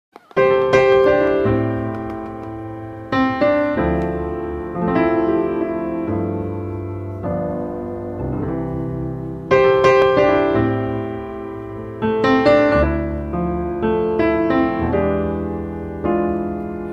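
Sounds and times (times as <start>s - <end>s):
slow piano chords: 0.4s - 16.9s.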